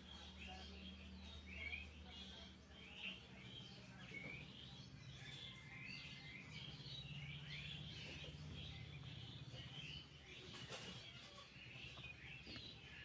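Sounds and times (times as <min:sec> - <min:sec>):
faint low hum: 0:00.0 - 0:13.0
small birds twittering: 0:00.0 - 0:13.0.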